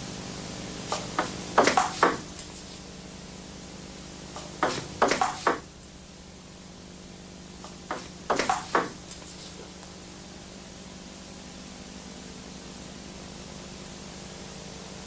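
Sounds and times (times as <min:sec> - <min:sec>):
steady hiss and hum: 0:00.0 - 0:15.0.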